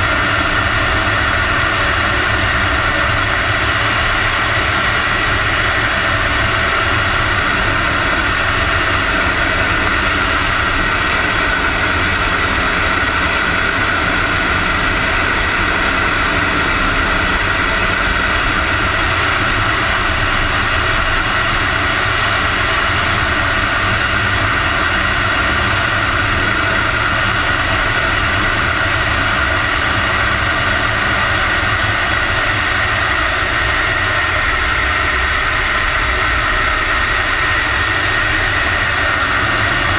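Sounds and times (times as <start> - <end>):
model jet engine whine: 0.0 - 39.9.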